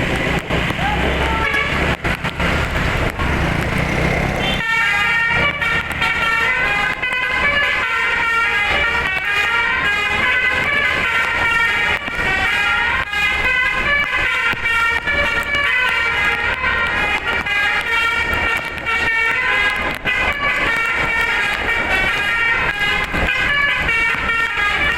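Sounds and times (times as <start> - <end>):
bus horn playing a melody: 1.2 - 1.9, 4.4 - 24.9.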